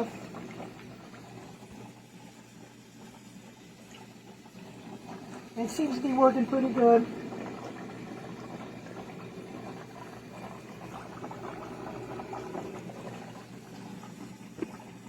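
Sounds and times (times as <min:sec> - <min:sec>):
water bubbling and gurgling: 0:00.0 - 0:15.0.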